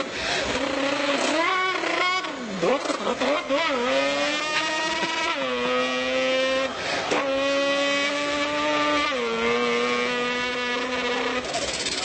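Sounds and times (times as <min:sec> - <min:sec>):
man imitating car engine: 0:00.0 - 0:12.0.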